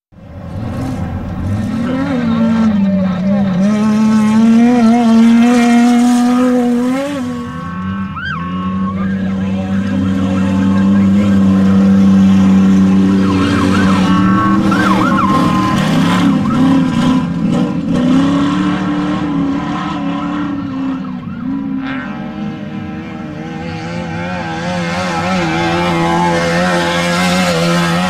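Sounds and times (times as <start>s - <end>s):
race vehicle engine revving: 0.2s - 28.0s.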